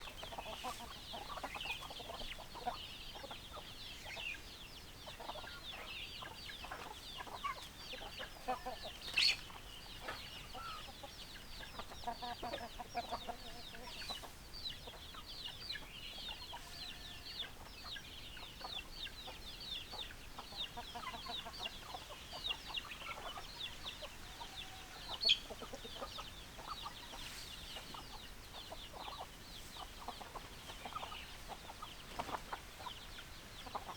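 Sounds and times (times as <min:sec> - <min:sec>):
chicks cheeping: 0:00.0 - 0:33.9
hens clucking: 0:00.0 - 0:33.9.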